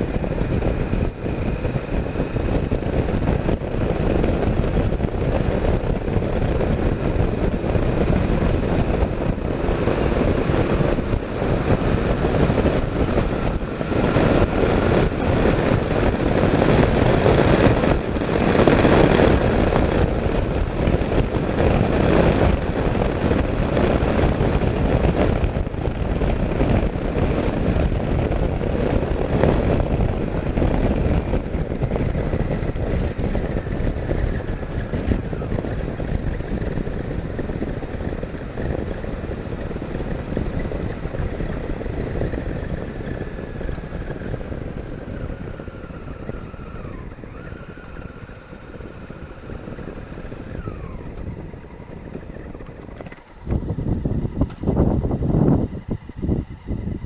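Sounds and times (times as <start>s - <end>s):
motorcycle wind and riding noise: 0.0s - 57.0s.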